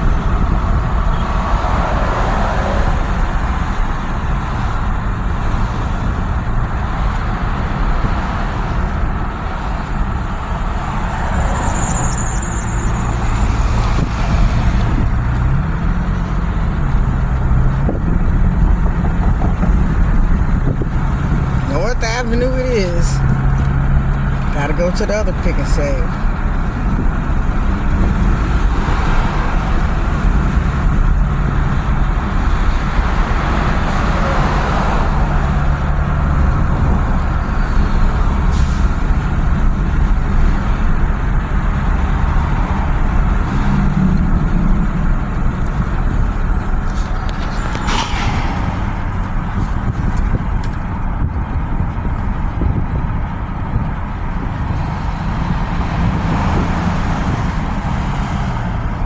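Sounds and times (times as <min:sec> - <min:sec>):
truck engine rumble: 0:00.0 - 0:59.0.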